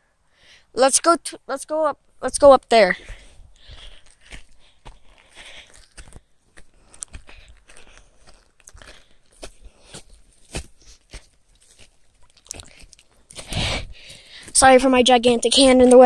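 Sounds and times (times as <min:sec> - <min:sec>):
footsteps crunching on forest floor: 0:02.8 - 0:16.0.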